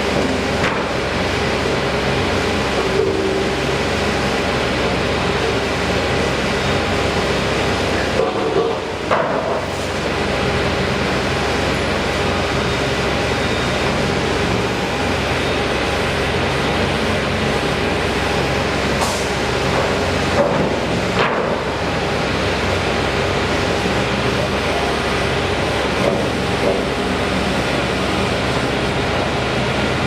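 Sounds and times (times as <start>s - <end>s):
heavy engine running: 0.0s - 30.0s.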